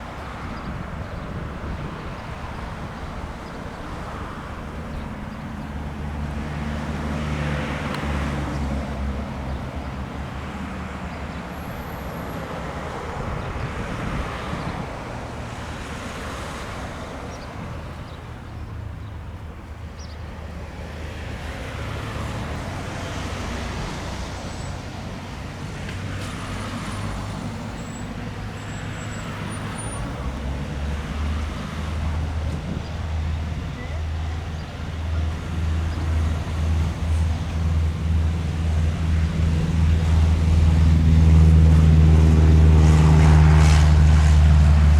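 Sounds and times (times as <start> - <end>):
engines humming: 0.0 - 44.9
vehicles passing whoosh: 0.0 - 44.9.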